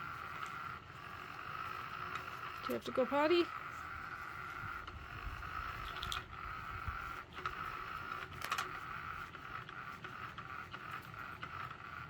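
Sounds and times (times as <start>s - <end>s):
toy electric motor whine: 0.0s - 12.0s.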